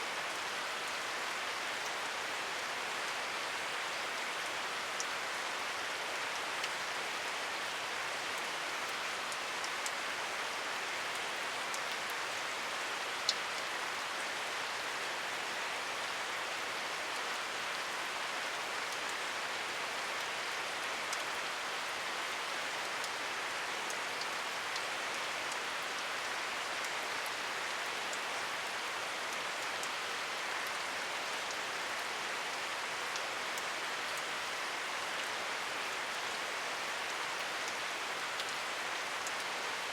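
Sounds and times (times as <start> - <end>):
steady rain hiss: 0.0 - 39.9
raindrops ticking on a surface: 0.1 - 39.9.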